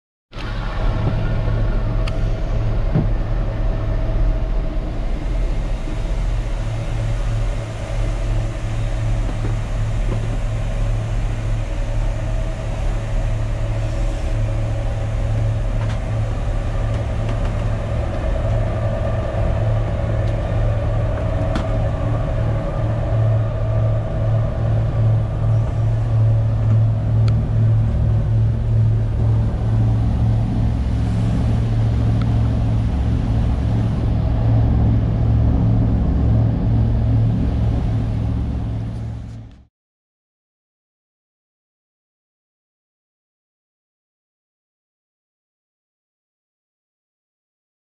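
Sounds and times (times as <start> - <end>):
boat engine droning: 0.3 - 39.7.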